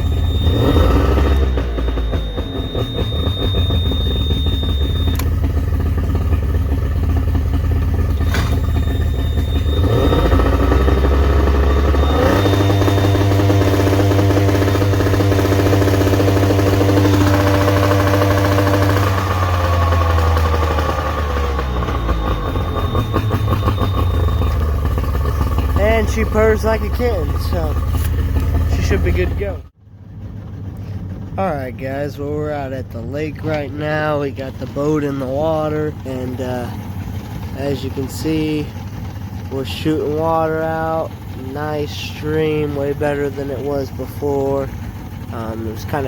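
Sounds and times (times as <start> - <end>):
outboard motor running: 0.0 - 46.0.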